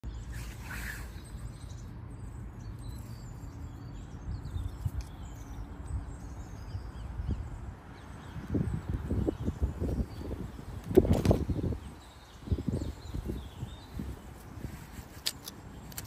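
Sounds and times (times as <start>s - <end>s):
faint bird chirps: 0.0s - 15.9s
low wind rumble: 0.0s - 16.0s.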